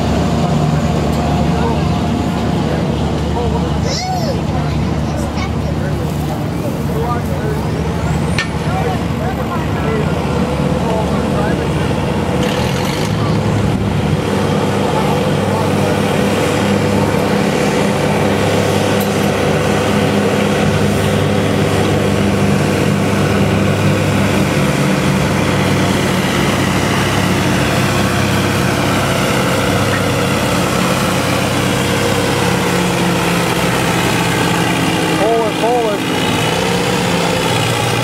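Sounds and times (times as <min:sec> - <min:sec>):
tractor engine under load: 0:00.0 - 0:03.8, 0:04.4 - 0:38.0.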